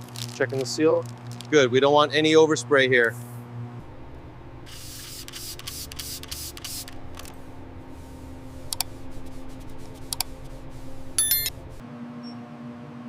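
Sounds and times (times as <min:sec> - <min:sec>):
steady low hum: 0:01.0 - 0:11.8.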